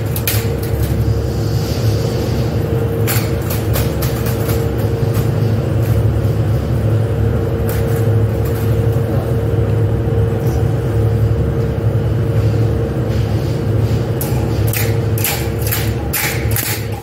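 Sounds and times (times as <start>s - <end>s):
factory machinery drone: 0.0s - 17.0s.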